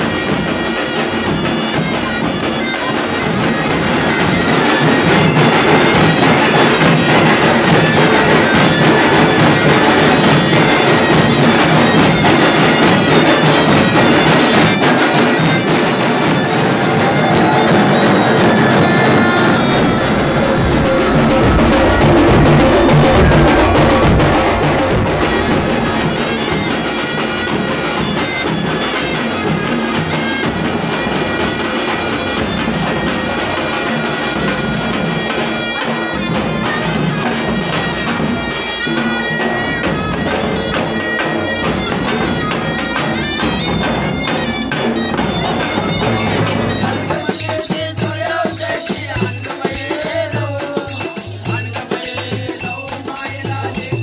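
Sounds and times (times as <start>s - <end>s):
drums and percussion: 0.0s - 54.0s
wind instrument melody: 0.0s - 54.0s.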